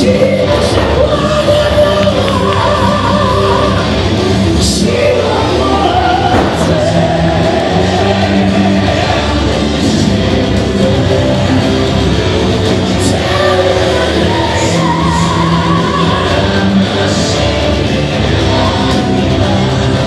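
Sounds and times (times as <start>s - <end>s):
loud rock music: 0.0s - 20.0s
person singing: 0.0s - 20.0s.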